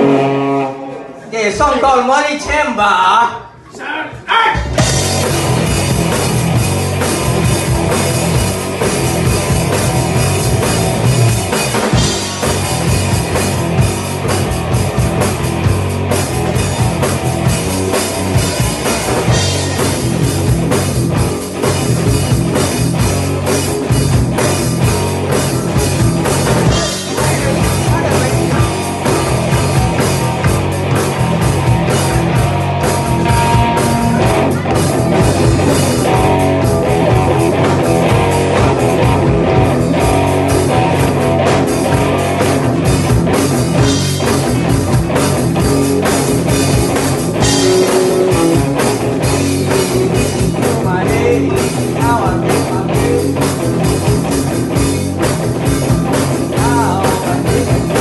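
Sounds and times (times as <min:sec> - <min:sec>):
electric guitar: 0:00.0 - 0:01.3, 0:04.6 - 0:58.0
drum kit: 0:00.0 - 0:01.8, 0:04.1 - 0:58.0
electric bass: 0:00.0 - 0:01.8, 0:04.6 - 0:58.0.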